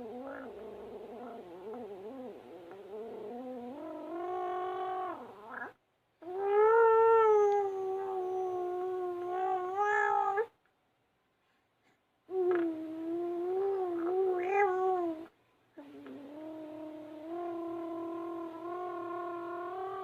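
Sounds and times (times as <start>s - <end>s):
baby droning vocal noise: 0.0s - 10.6s, 12.3s - 20.0s.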